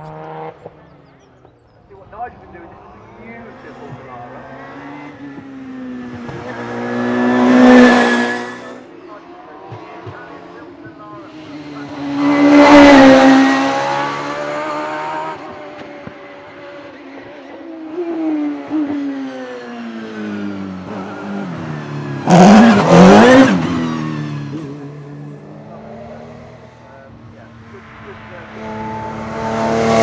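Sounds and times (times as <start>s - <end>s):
racing car engine at full throttle: 0.0s - 1.5s, 2.2s - 30.0s.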